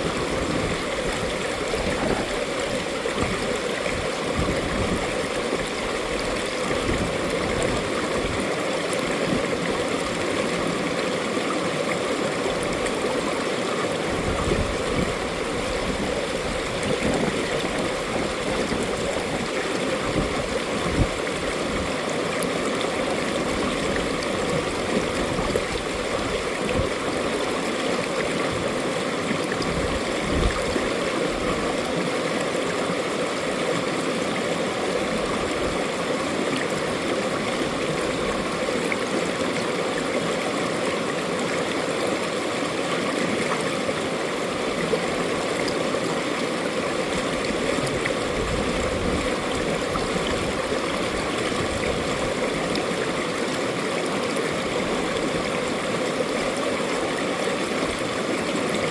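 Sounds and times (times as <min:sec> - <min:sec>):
stream rushing and gurgling: 0:00.0 - 0:58.9.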